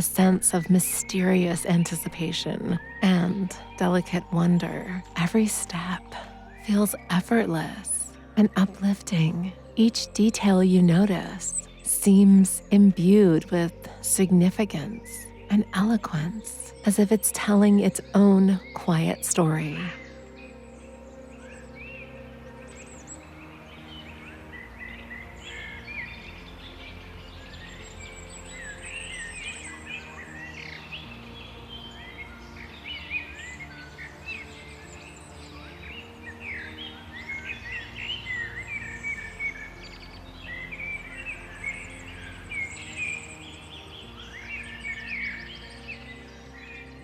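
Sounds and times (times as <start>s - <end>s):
soft ambient music: 0.0s - 47.0s
songbirds singing and chirping: 0.0s - 47.0s.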